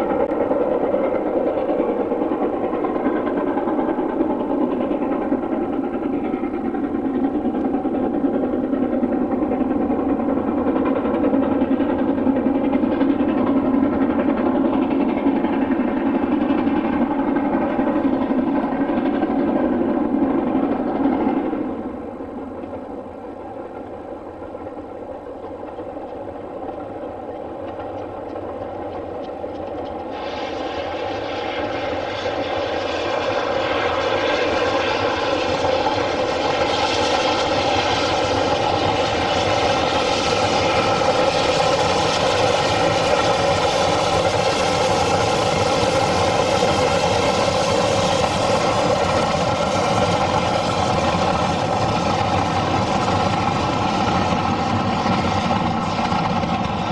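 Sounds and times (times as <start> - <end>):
train running: 0.0 - 56.9.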